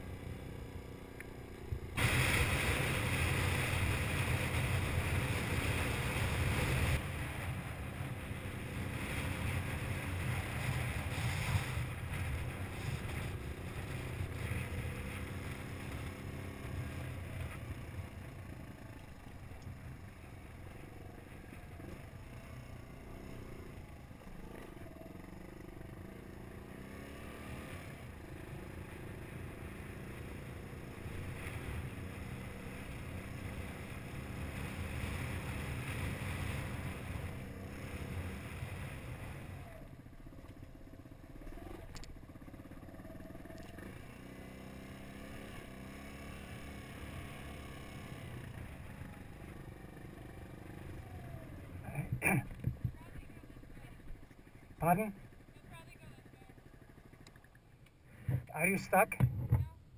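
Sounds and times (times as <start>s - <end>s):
motorbike engine on dirt track: 0.0s - 59.9s.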